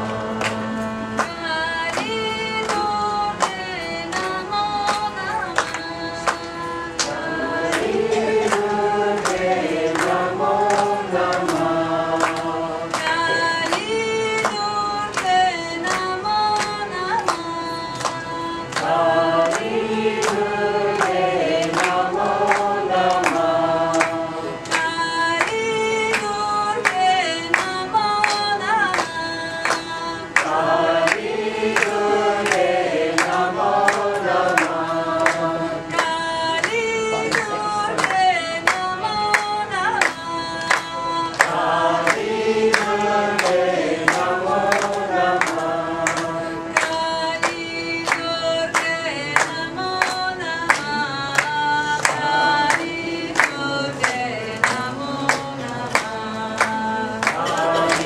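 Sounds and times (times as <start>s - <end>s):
musical accompaniment: 0.0s - 58.0s.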